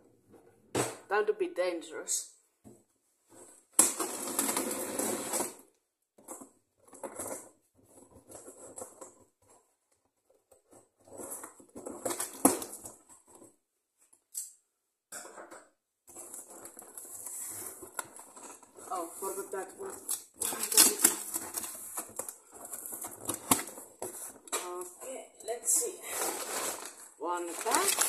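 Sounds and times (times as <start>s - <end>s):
cardboard and packing rustling: 2.7s - 14.1s, 16.1s - 28.0s.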